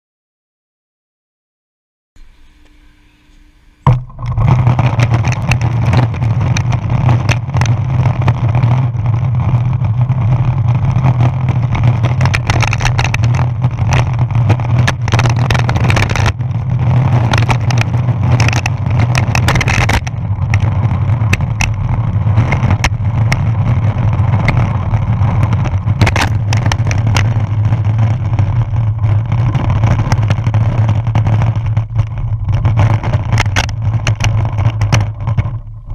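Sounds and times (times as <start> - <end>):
sharp clicks and knocks: 2.6 - 35.9
longboard wheels rumbling on pavement: 3.8 - 35.9.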